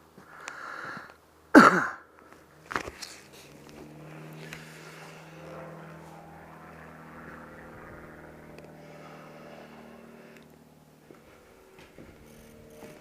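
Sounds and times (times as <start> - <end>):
motorcycle engine humming: 2.1 - 13.0.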